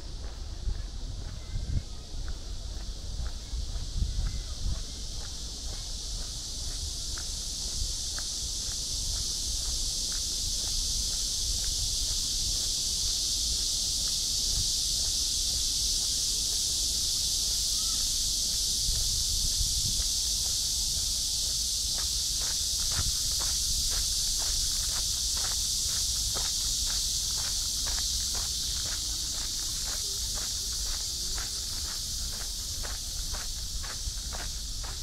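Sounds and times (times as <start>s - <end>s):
high-pitched insect chorus: 0.0s - 35.0s
footsteps on path: 2.2s - 35.0s.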